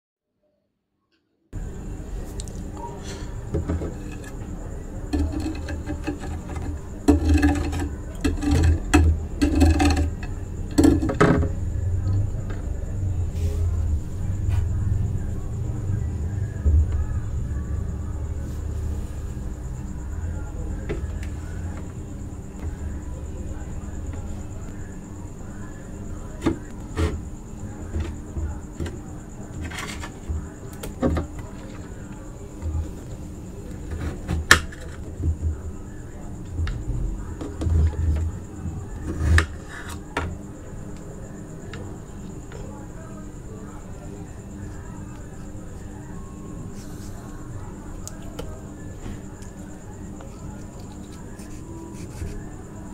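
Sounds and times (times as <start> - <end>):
steady low hum: 1.5 - 52.9.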